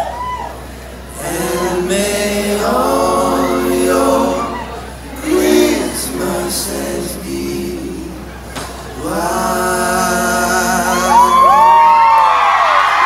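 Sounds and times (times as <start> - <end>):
men singing a cappella harmony: 1.1 - 11.8.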